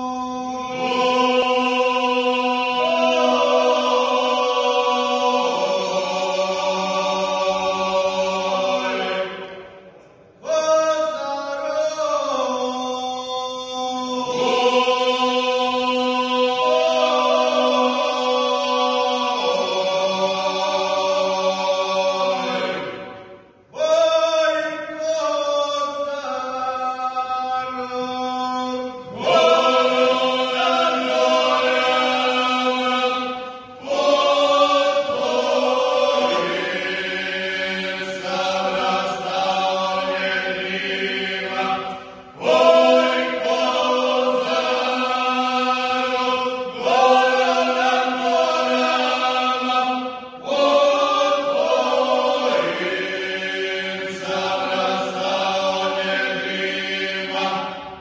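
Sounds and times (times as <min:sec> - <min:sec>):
men's group singing: 0:00.0 - 0:09.7, 0:10.4 - 0:58.0.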